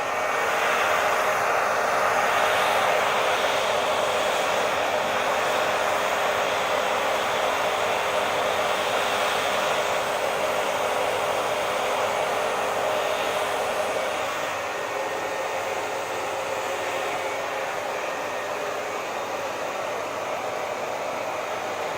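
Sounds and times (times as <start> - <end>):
hair dryer running: 0.0 - 21.9.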